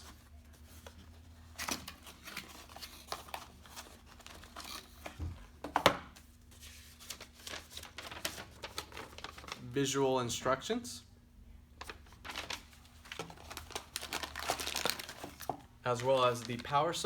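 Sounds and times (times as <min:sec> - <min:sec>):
packaging rustling and crinkling: 0:00.0 - 0:05.2, 0:06.2 - 0:09.7, 0:11.8 - 0:17.0.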